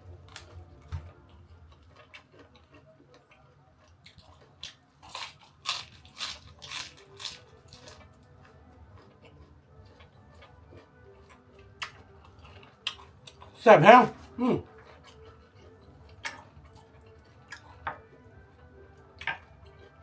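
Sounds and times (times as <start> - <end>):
chewing crisp food: 0.0 - 20.0.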